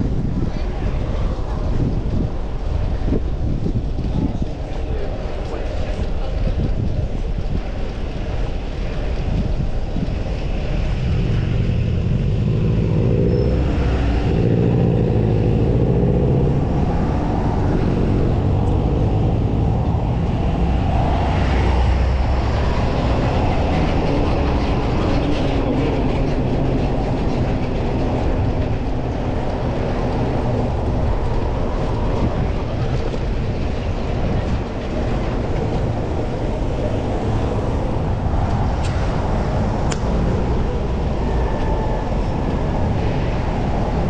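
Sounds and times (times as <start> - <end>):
road traffic rumble: 0.0 - 44.0
wind on microphone: 0.0 - 44.0.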